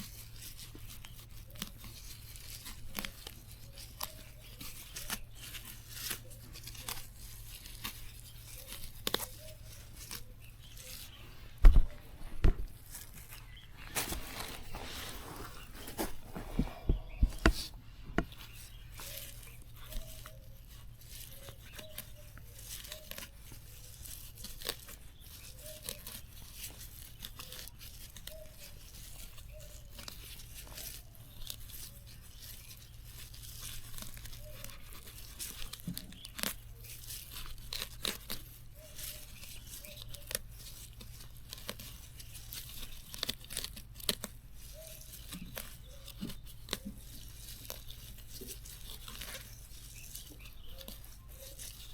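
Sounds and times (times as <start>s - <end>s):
plants being torn by hand: 0.0s - 51.9s.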